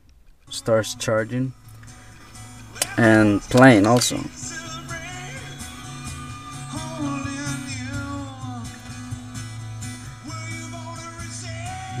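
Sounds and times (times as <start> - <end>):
song with singing from car stereo: 0.5 - 12.0.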